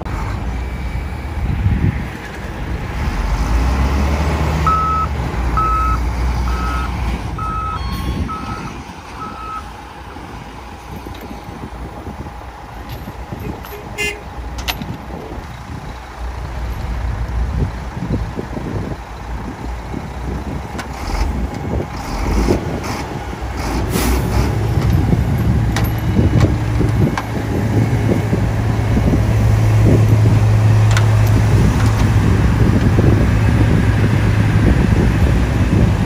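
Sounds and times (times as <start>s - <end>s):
diesel engines idling: 0.0s - 36.0s.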